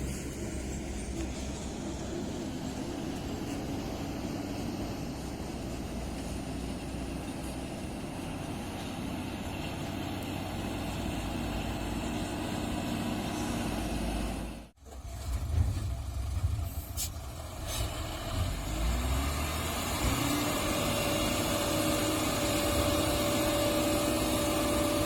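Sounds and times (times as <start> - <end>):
dump truck diesel engine running: 0.0 - 25.0.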